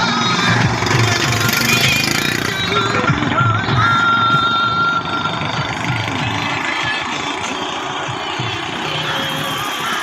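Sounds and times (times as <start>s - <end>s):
heavy truck engine running: 0.0s - 10.0s.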